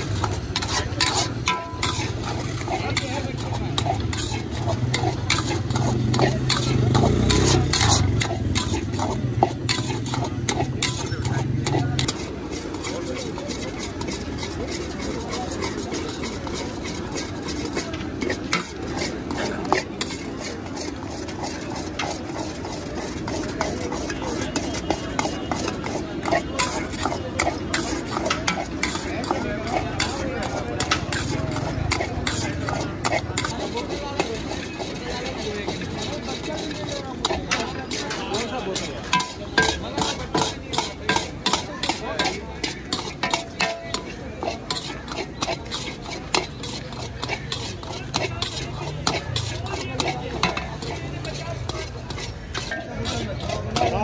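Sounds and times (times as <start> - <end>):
stirrer scraping iron wok: 0.0 - 54.0.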